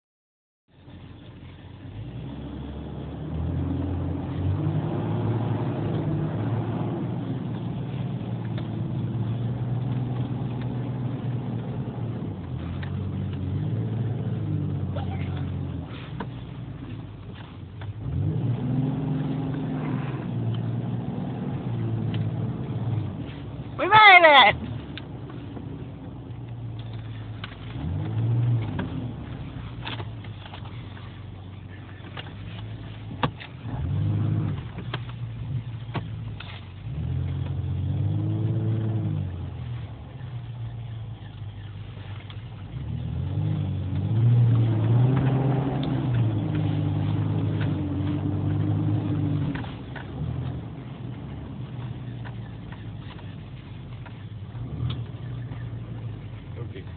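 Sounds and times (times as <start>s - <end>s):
car engine pulling away: 0.7s - 56.9s.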